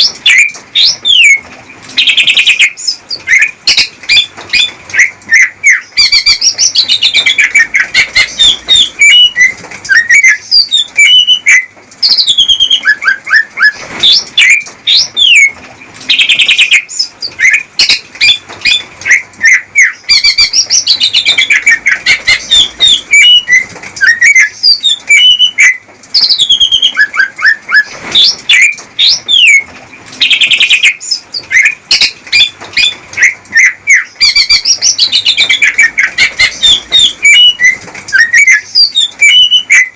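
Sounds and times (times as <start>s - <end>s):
bird singing whistled notes: 0.0s - 1.4s, 2.0s - 39.9s.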